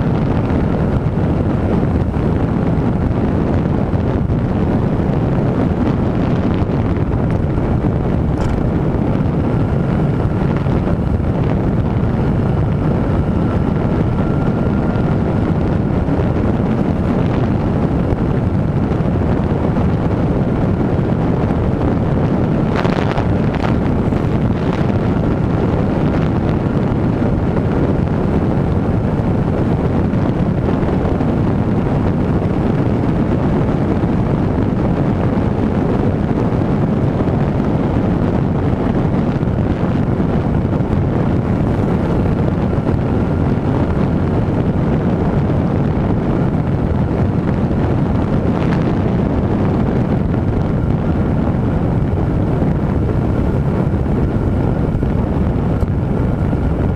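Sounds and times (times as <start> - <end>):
motorcycle engine running: 0.0 - 56.9
wind rush on microphone: 0.0 - 56.9.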